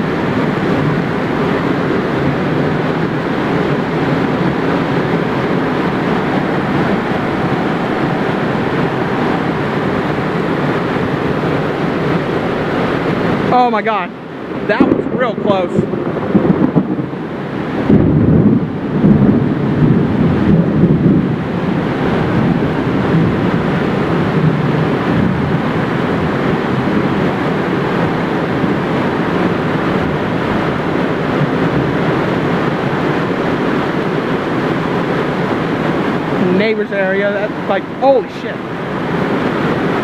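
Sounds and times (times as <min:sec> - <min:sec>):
heavy rain pouring: 0:00.0 - 0:40.0
thunder rumble: 0:00.0 - 0:40.0.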